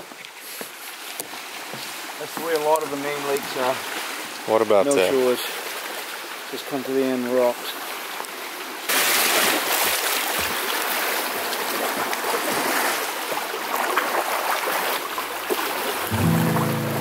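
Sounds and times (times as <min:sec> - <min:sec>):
lake waves lapping on rocks: 0:00.5 - 0:17.0.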